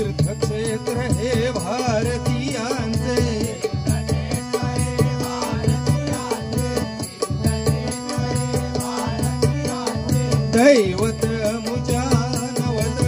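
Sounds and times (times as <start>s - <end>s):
hand drum pattern: 0.0s - 13.0s.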